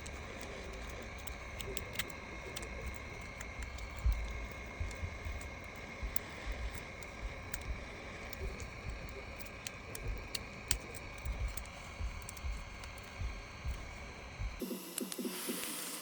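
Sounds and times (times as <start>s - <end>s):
repair tools clicking and tapping: 0.0s - 15.7s.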